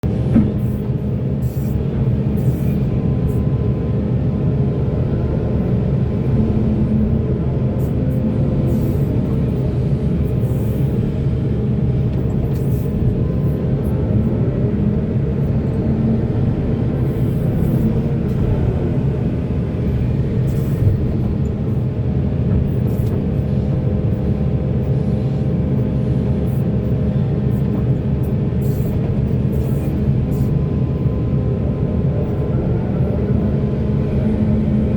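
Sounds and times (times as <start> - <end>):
diesel machinery engine drone: 0.0 - 34.9.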